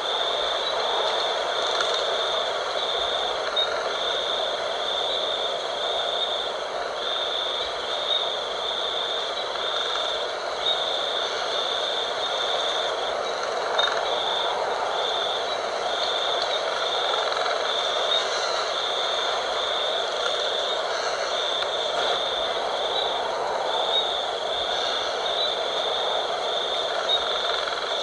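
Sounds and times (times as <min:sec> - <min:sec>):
high-pitched insect trill: 0:00.0 - 0:28.0
wind blowing: 0:00.0 - 0:28.0.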